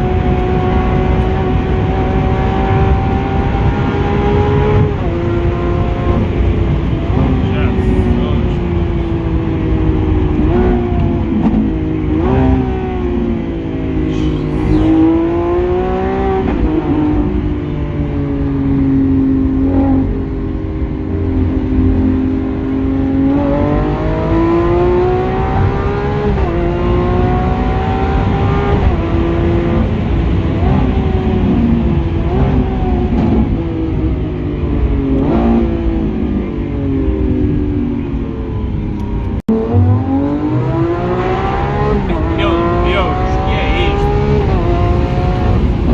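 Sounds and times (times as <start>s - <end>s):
car engine revving through gears: 0.0s - 45.9s.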